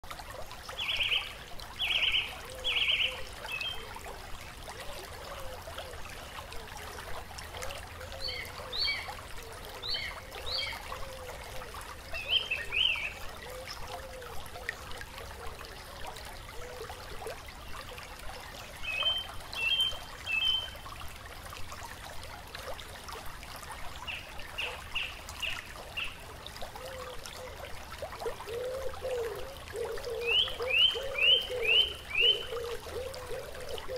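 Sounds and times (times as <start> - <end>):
stream trickling: 0.0 - 33.9.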